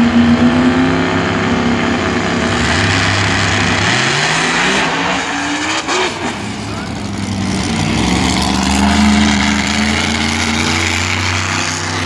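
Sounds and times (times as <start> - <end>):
engine revving: 0.0 - 12.0
race car engines running: 0.0 - 12.0.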